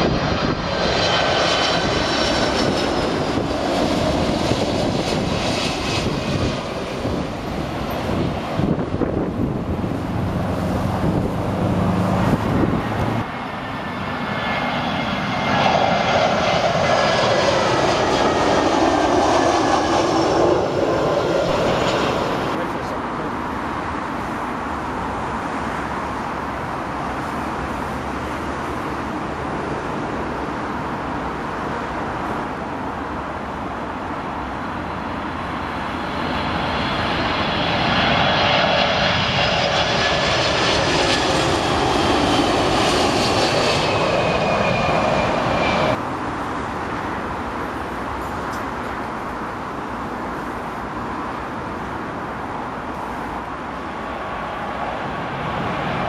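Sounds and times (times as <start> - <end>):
jet passing overhead: 0.0 - 56.0.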